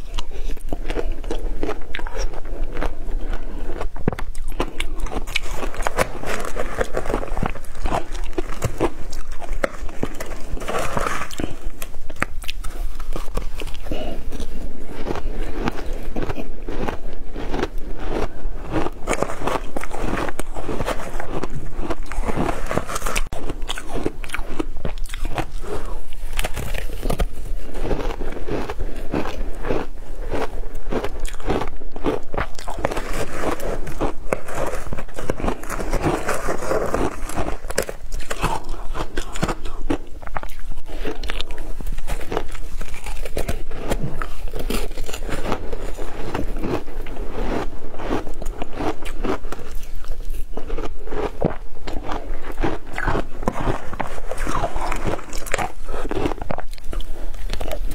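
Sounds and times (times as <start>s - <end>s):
ice crunching being chewed: 0.0s - 57.9s.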